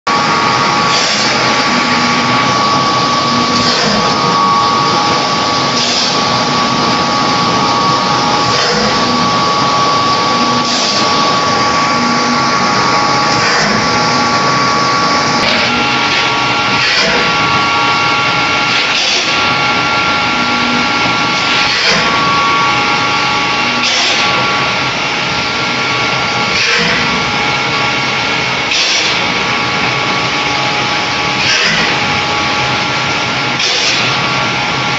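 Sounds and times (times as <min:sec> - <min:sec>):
machinery running with steady whine: 0:00.1 - 0:34.9.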